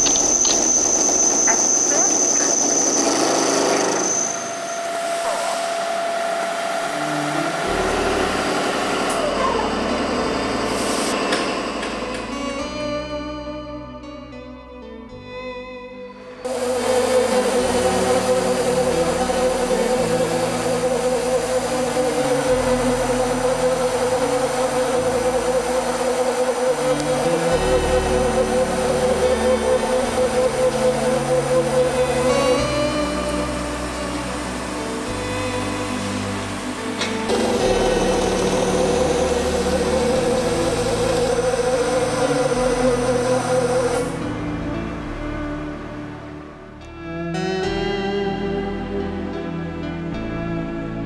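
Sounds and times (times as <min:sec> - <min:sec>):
drilling machine whining: 0:00.0 - 0:13.3, 0:16.2 - 0:46.2
deep hum: 0:00.0 - 0:51.0
background music with low bass: 0:06.7 - 0:51.0.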